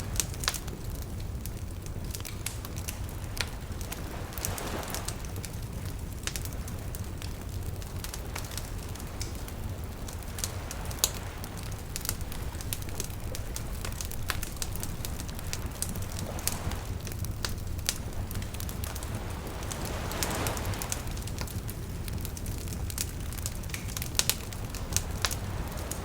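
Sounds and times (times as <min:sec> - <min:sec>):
campfire crackling and popping: 0:00.0 - 0:26.0
low rumble of flames: 0:00.0 - 0:26.0.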